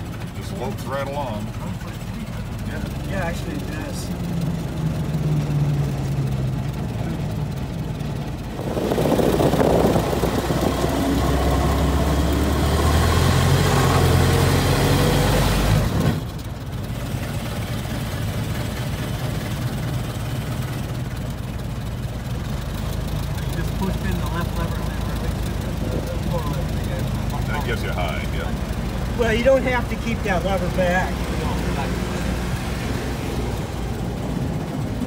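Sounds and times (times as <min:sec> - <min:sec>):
old car engine running: 0:00.0 - 0:35.0.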